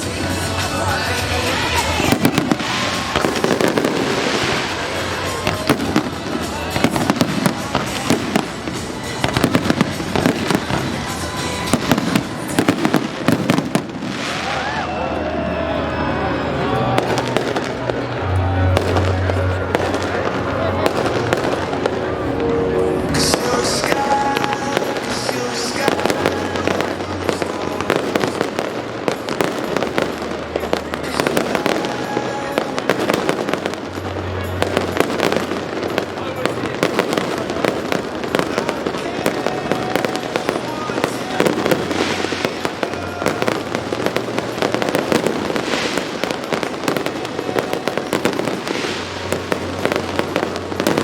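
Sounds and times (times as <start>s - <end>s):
fireworks bangs and crackles: 0.0s - 51.0s
music playing: 0.0s - 51.0s.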